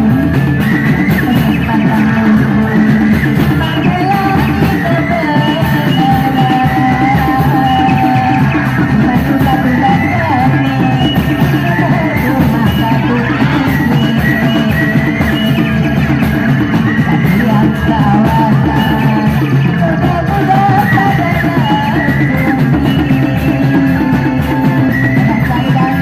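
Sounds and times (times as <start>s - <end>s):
electric guitar: 0.0s - 26.0s
fast drum beat: 0.0s - 26.0s
live band music over speakers: 0.0s - 26.0s
person singing: 0.0s - 26.0s.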